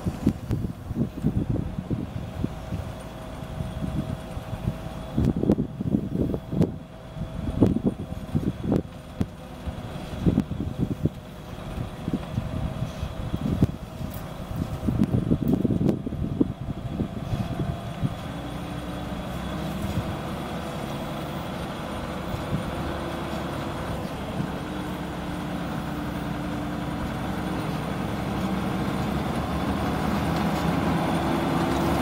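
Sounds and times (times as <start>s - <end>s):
combine harvester engine running: 0.0s - 32.0s.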